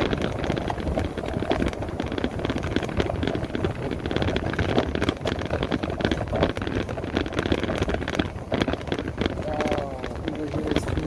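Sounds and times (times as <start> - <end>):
road rumble: 0.0 - 11.0
small rattles and knocks: 0.0 - 11.0
wind buffeting microphone: 0.0 - 11.0.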